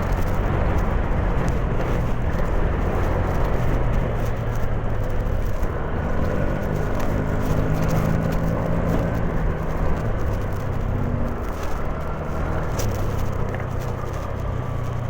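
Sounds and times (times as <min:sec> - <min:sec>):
road noise: 0:00.0 - 0:15.0
scooter engine drone: 0:00.0 - 0:15.0.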